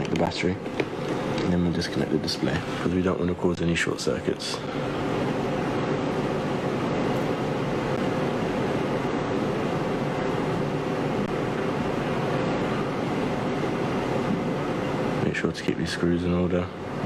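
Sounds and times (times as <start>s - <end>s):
faint hum: 0.0s - 17.0s
steady hiss: 0.0s - 17.0s.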